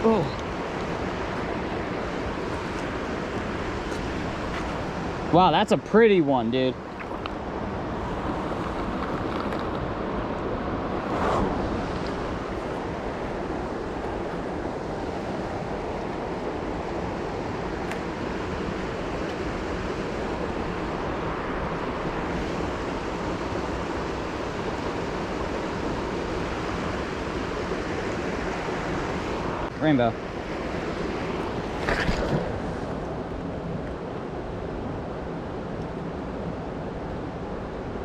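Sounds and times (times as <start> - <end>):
creek water rushing: 0.0 - 38.0.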